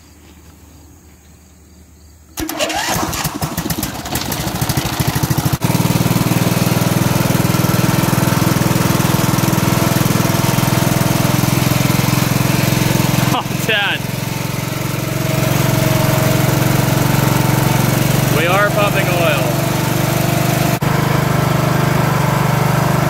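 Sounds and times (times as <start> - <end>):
mower engine cranking and running: 2.4 - 23.0.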